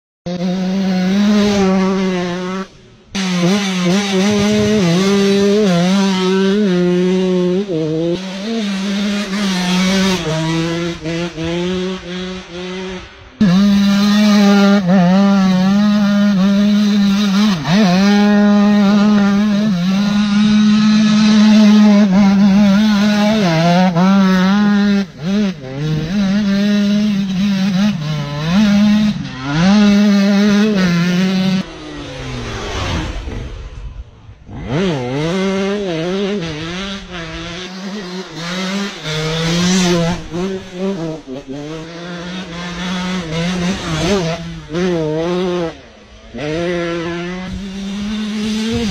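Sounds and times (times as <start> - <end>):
motocross bike engine revving: 0.3 - 48.9.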